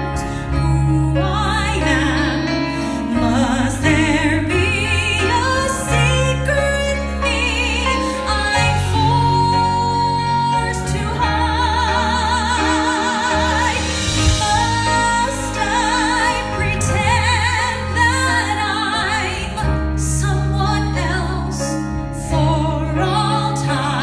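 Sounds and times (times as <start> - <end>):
piano and band accompaniment: 0.0 - 24.0
woman singing a slow ballad: 0.0 - 24.0.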